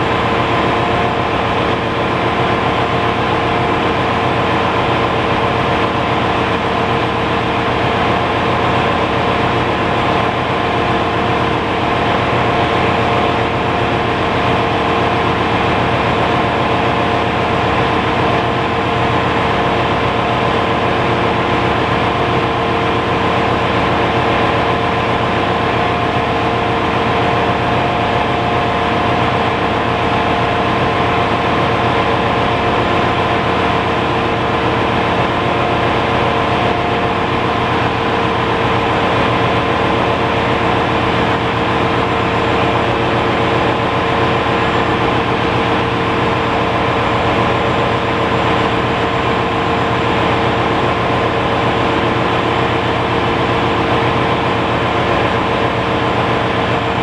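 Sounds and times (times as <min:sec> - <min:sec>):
engine-room machinery drone: 0:00.0 - 0:57.0.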